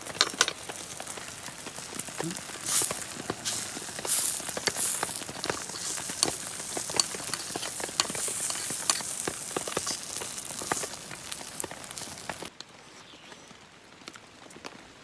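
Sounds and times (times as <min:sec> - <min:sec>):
batter sizzling on a griddle: 0:00.0 - 0:12.5
sharp clicks and taps: 0:00.0 - 0:12.5.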